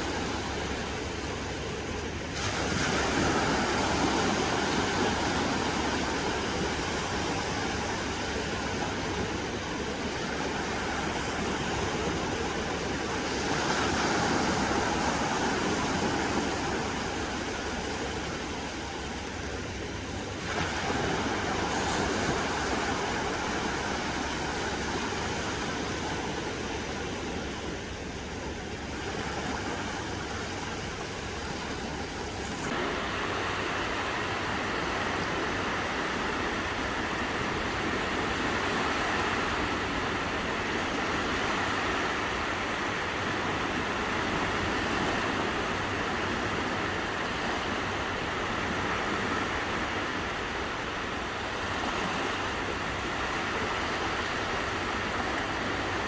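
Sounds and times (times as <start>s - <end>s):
sea waves washing onto beach: 0.0s - 56.0s
wind rumbling on microphone: 0.0s - 56.0s.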